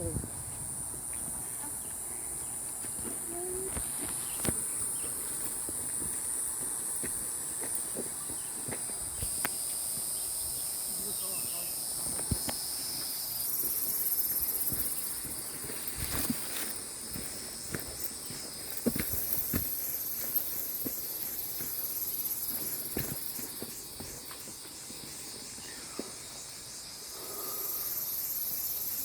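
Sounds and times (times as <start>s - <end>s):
insects buzzing: 0.0s - 29.0s
footsteps on rocky trail: 0.3s - 10.9s, 11.8s - 26.8s.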